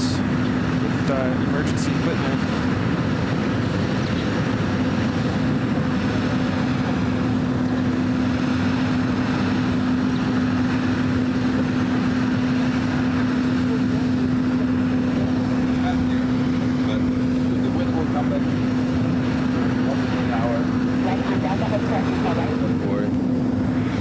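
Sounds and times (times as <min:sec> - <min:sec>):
machine engine humming: 0:00.0 - 0:24.0.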